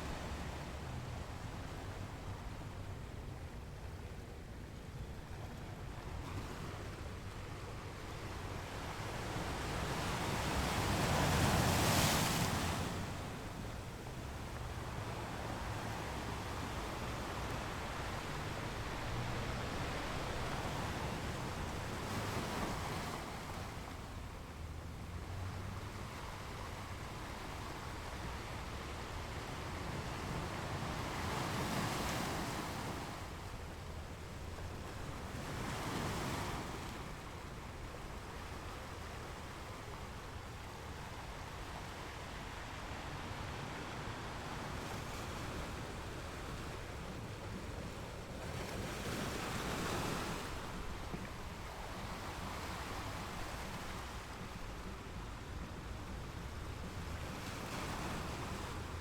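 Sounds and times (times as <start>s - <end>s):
ocean waves washing onto beach: 5.9s - 59.0s.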